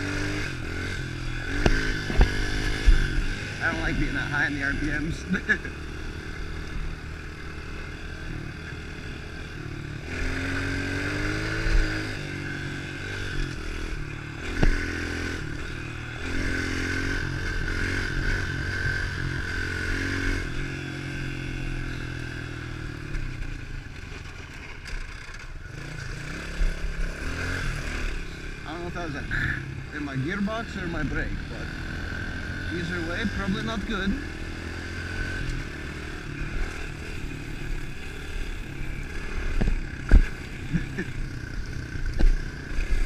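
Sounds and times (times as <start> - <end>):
motorbike engine revving: 0.0 - 43.0.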